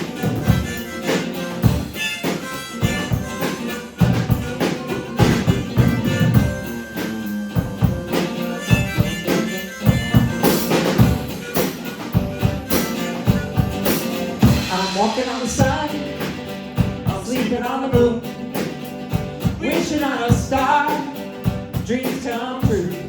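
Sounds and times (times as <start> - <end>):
band playing instrumental: 0.0 - 19.9
drums beating: 0.0 - 23.0.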